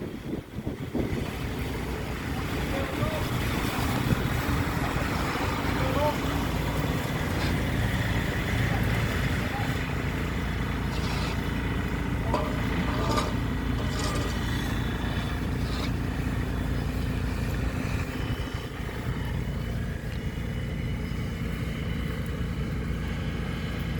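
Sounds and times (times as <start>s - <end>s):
engine running: 0.0s - 23.9s
engine knocks: 0.4s - 23.9s.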